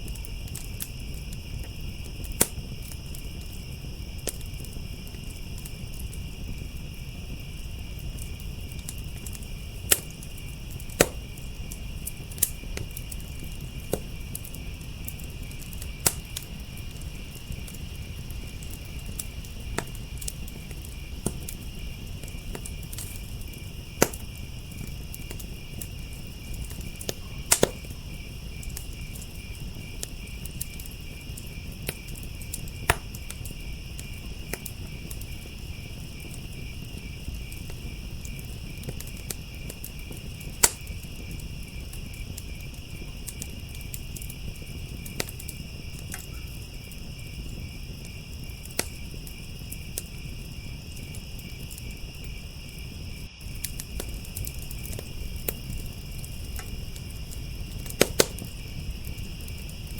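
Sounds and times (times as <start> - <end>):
crickets trilling: 0.0 - 59.9
wood fire crackling and popping: 0.0 - 59.9.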